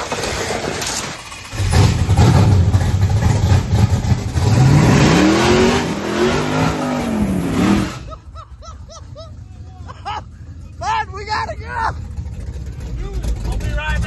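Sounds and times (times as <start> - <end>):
vee eight engine rumbling and revving: 1.2 - 8.4, 9.2 - 14.0.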